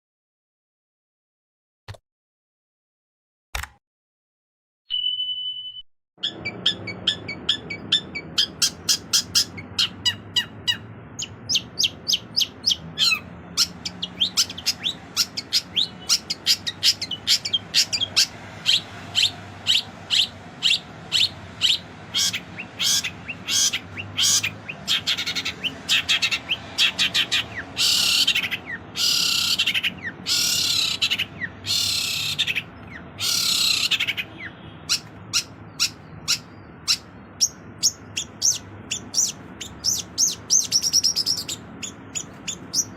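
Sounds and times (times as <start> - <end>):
bird singing chirps and whistles: 6.2 - 42.9
harsh rasping bird calls: 6.2 - 42.9.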